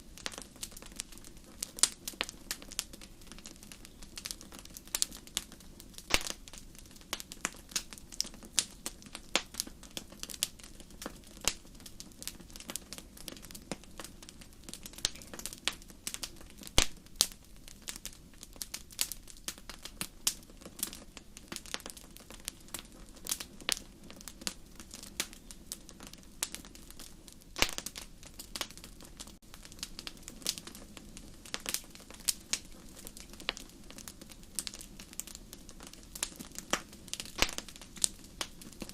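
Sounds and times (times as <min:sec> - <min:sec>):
wood fire crackling and popping: 0:00.0 - 0:38.9
flames rushing: 0:00.1 - 0:38.9.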